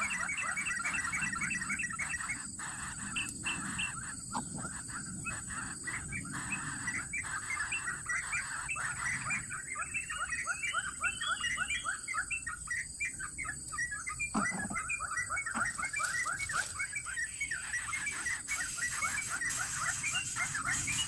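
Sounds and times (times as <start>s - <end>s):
nestling birds chirping: 0.0s - 21.0s.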